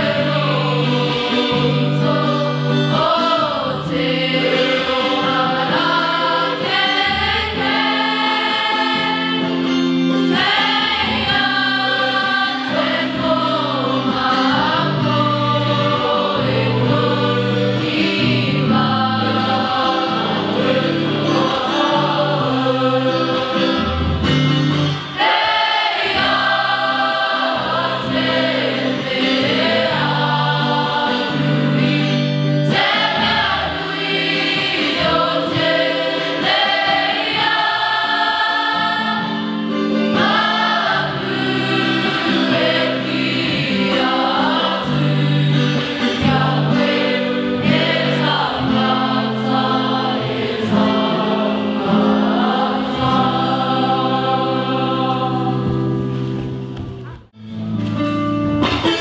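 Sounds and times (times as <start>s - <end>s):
choir singing slow chords: 0.0s - 56.8s.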